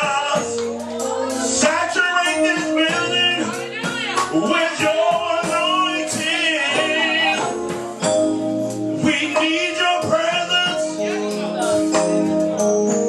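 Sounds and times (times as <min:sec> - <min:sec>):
band playing steady chords: 0:00.0 - 0:13.0.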